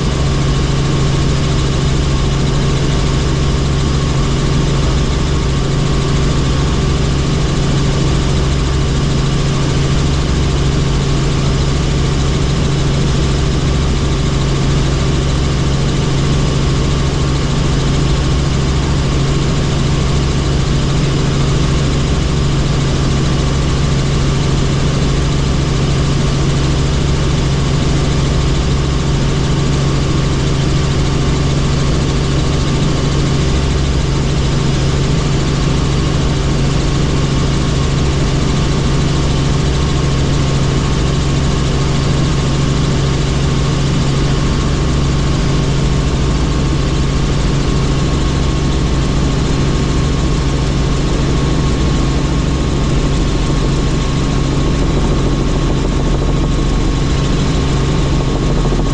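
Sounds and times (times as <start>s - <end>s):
helicopter engine and rotor noise: 0.0s - 58.9s.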